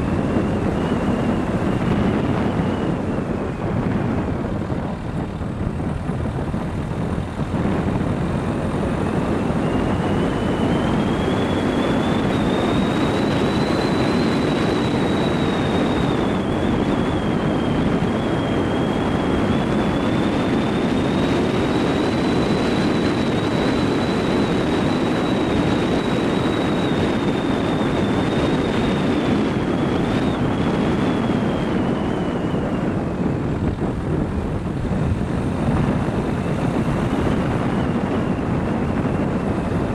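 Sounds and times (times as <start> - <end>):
car road and wind noise: 0.0 - 39.9
high whine: 0.0 - 39.9.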